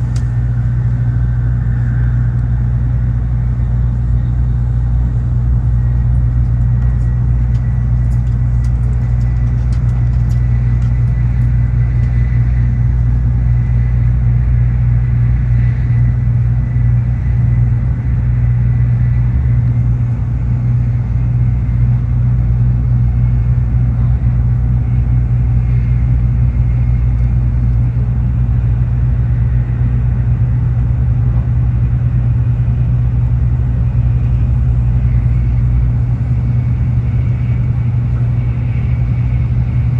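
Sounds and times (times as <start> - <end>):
train rumble inside cabin: 0.0 - 39.9.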